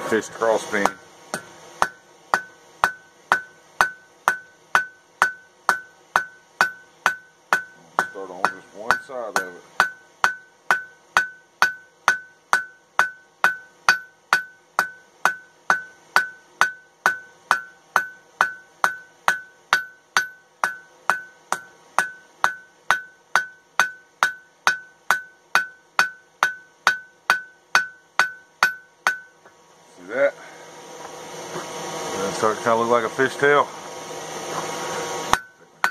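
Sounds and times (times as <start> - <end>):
hammer ringing on hot steel: 0.6 - 29.5, 35.3 - 35.9.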